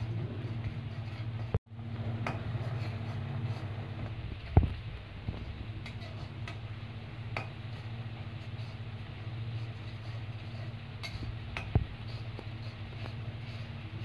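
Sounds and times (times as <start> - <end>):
induction cooktop hum: 0.0 - 14.0.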